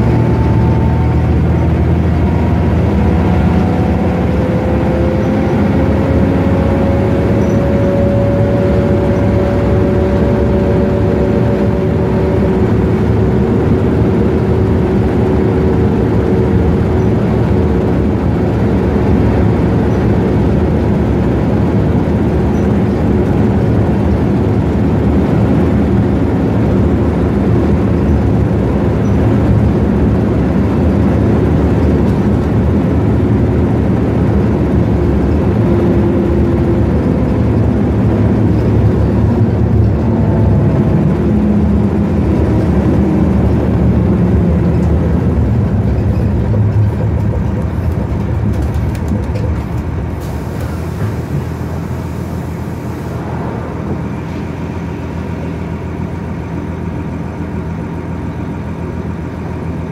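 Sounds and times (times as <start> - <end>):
low whine: 0.0 - 59.6
diesel engine running: 0.0 - 59.9.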